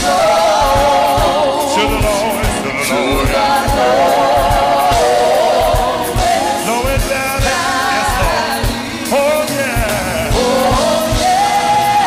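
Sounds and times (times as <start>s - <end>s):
drums keeping beat: 0.0s - 12.0s
gospel singing: 0.0s - 12.0s
instrumental accompaniment: 0.0s - 12.0s.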